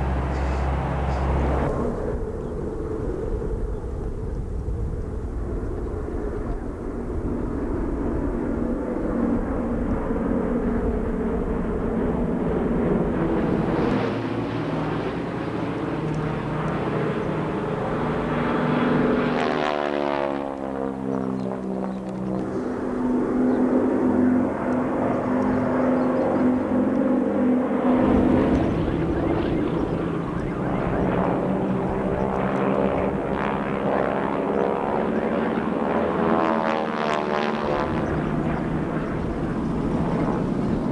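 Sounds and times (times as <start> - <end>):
propeller aircraft engines droning: 0.0 - 40.9.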